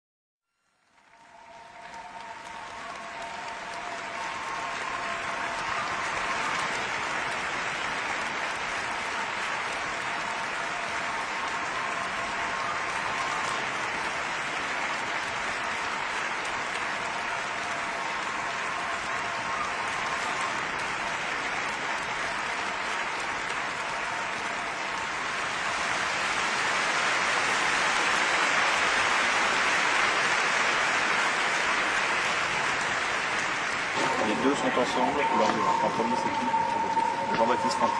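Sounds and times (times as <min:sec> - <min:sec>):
large audience applauding: 0:00.8 - 0:37.9.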